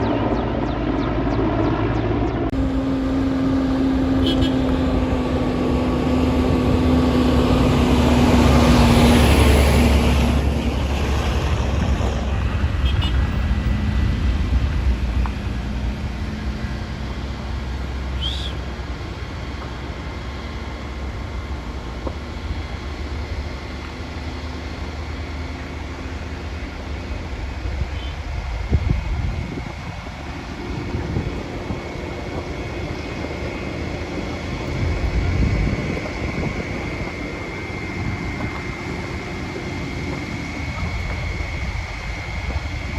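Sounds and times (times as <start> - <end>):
motor rumble passing: 0.0 - 42.9.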